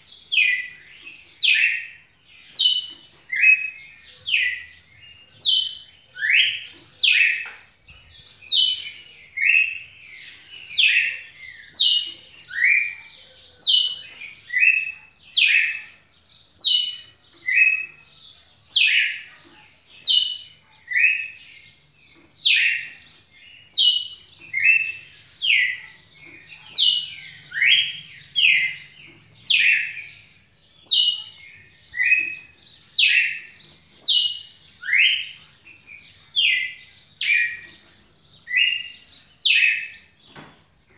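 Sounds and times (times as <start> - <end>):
bird singing whistled notes: 0.0 - 19.3, 20.0 - 40.2.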